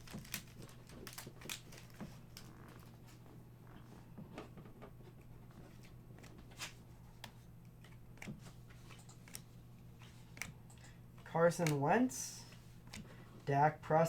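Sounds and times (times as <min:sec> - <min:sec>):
trading cards flicking and tapping: 0:00.0 - 0:03.2, 0:04.2 - 0:13.4
low steady hum: 0:00.0 - 0:14.0.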